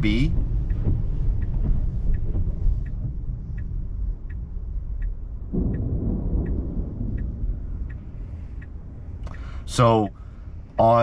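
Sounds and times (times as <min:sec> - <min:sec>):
rushing rumble: 0:00.0 - 0:11.0
turn signal ticking: 0:00.0 - 0:11.0.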